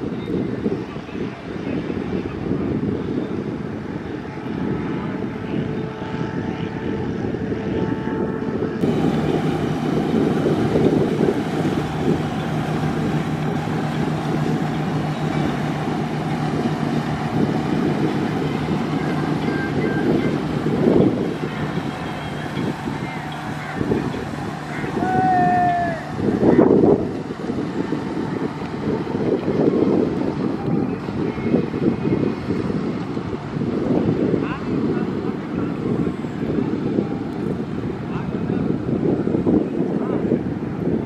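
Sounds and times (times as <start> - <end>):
boat engine humming: 0.0 - 41.0
wind buffeting microphone: 0.0 - 41.0.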